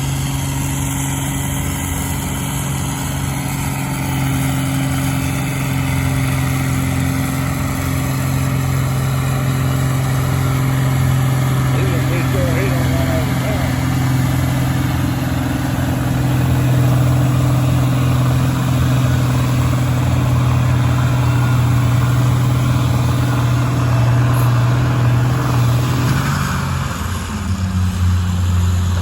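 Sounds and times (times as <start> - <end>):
tractor engine running hard: 0.0 - 29.0.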